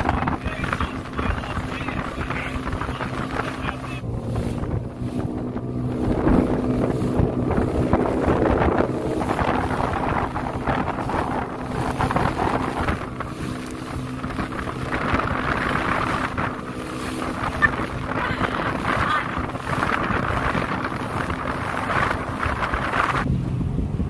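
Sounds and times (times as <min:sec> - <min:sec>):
boat engine humming: 0:00.0 - 0:24.0
wind on microphone: 0:00.0 - 0:24.0.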